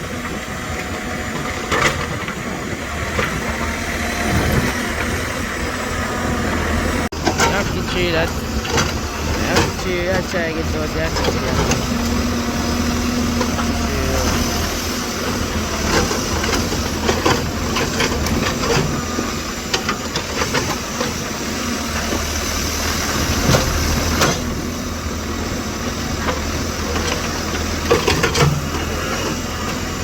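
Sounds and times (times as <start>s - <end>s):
tractor engine humming: 0.0s - 30.0s.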